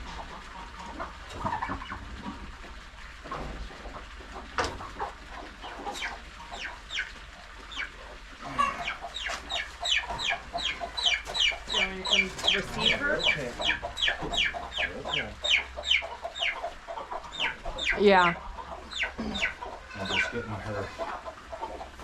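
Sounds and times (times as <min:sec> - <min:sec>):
poultry squawking: 0:03.2 - 0:22.0.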